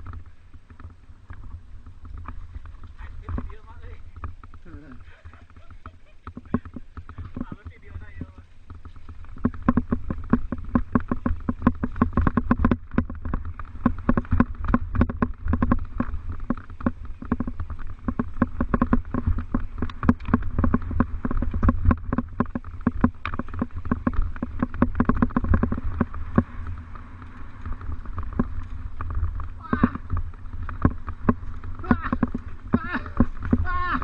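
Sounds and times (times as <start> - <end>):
mountain bike rattling: 0.0 - 34.0
wind rumble on microphone: 0.0 - 34.0.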